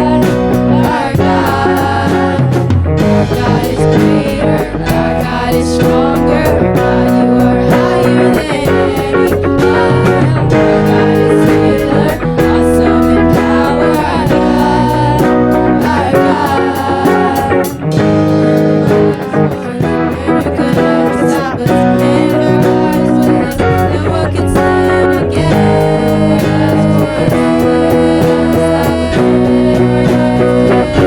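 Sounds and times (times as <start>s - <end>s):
worship music with guitar: 0.0s - 31.0s.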